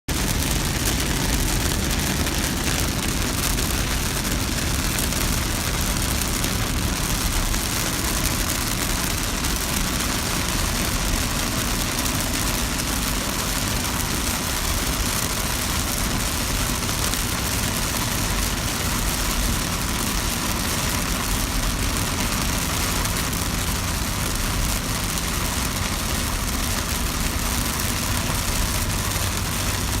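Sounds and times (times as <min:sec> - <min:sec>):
car engine and tyres rumbling: 0:00.1 - 0:30.0
rain hissing: 0:00.1 - 0:30.0.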